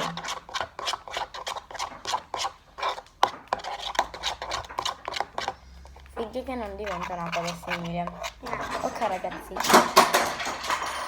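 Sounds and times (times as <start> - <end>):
slime being stirred: 0.0 - 11.0.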